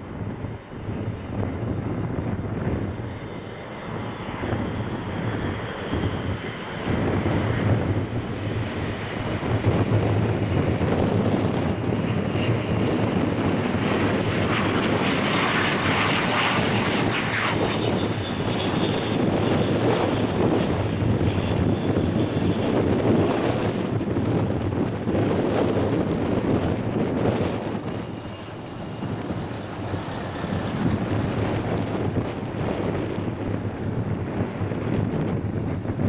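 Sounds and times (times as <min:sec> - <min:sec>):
propeller aircraft flying past: 0:00.0 - 0:36.0.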